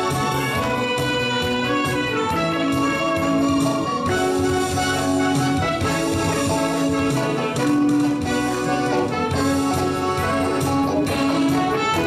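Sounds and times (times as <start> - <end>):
brass-like lead melody: 0.0 - 12.0
small band playing instrumental: 0.0 - 12.0.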